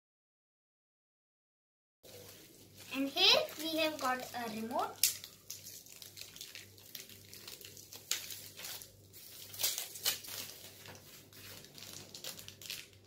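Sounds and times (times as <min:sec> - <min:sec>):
plastic packaging crinkling: 0:02.1 - 0:13.0.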